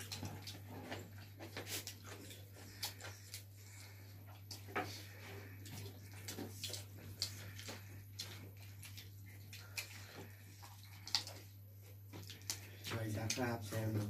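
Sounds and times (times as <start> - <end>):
steady low hum: 0.0 - 14.0
wet chewing and lip-smacking: 0.0 - 14.0.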